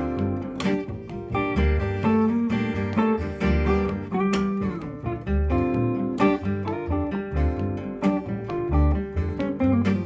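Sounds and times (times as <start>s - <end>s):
lead guitar: 0.0s - 10.0s
strummed acoustic guitar: 0.0s - 10.0s
upright bass: 0.0s - 10.0s.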